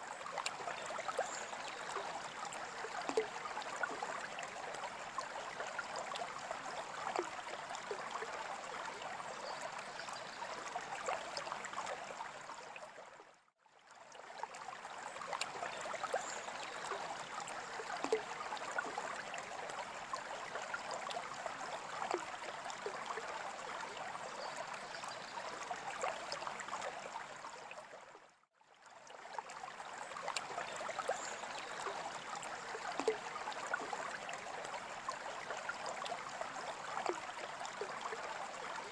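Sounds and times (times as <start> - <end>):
water splashes and drips: 0.0 - 28.2, 28.8 - 38.9
aquarium water trickling and bubbling: 0.0 - 38.9.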